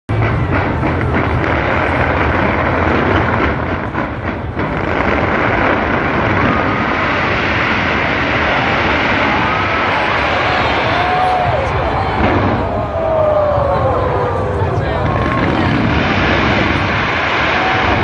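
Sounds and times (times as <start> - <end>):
fireworks booming: 0.1 - 18.0
fireworks crackling: 0.1 - 18.0.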